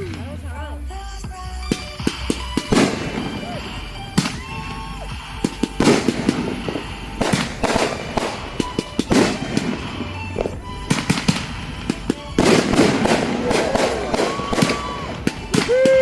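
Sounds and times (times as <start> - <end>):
fireworks bangs: 0.0 - 16.0
music playing: 0.0 - 16.0.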